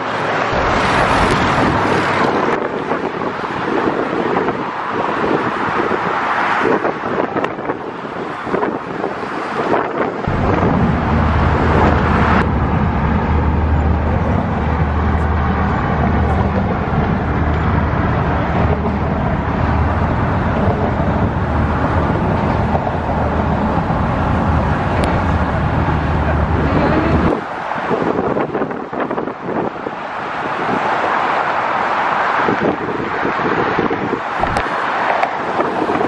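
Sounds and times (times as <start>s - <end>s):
car traffic: 0.0s - 36.0s
wind buffeting microphone: 0.4s - 36.0s.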